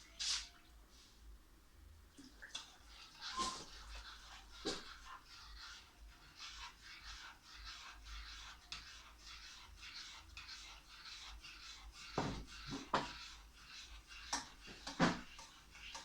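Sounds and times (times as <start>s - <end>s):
spoon scraping a pot: 2.6s - 16.0s.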